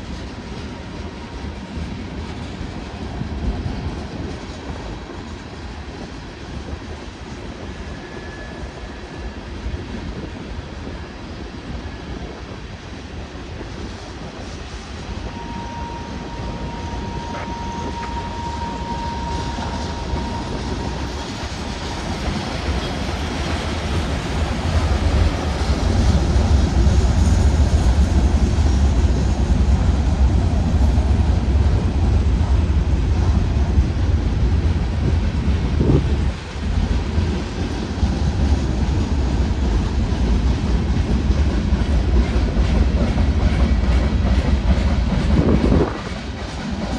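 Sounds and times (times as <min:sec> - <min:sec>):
freight train cars rumbling past: 0:00.0 - 0:46.9.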